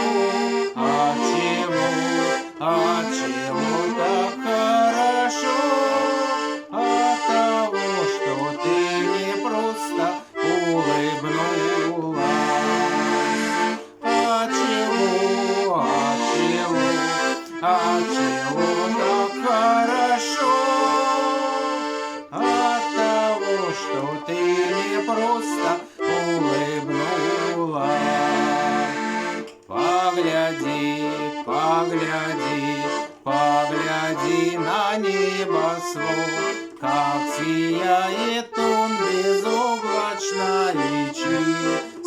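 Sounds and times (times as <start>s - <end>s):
accordion playing sustained chords: 0.0s - 42.0s
person singing: 0.0s - 42.0s.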